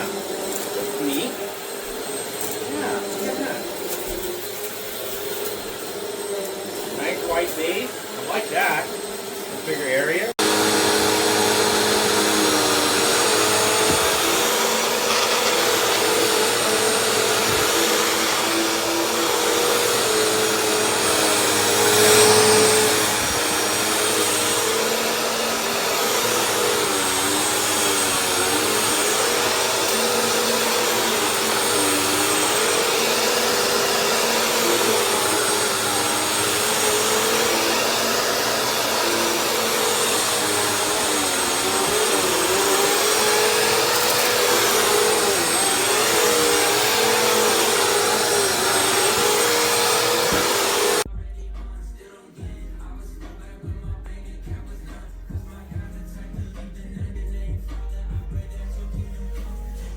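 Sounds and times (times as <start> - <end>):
vacuum cleaner motor humming: 0.0 - 51.1.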